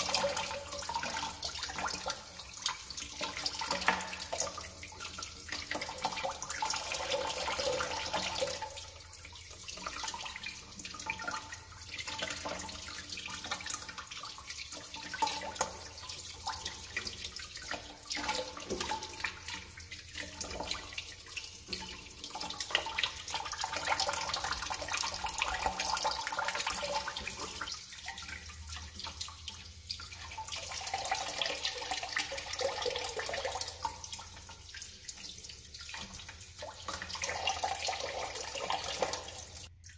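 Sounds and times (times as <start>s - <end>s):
water splashing into bucket: 0.0s - 39.9s.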